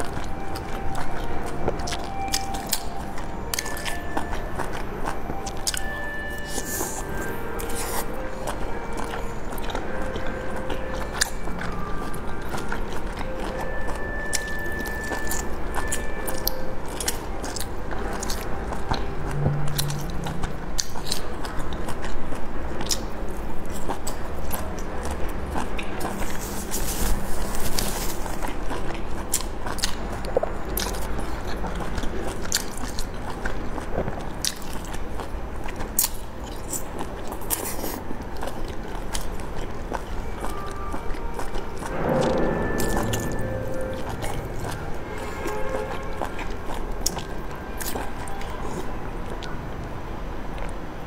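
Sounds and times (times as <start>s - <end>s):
person chewing soft dumplings: 0.0s - 51.0s.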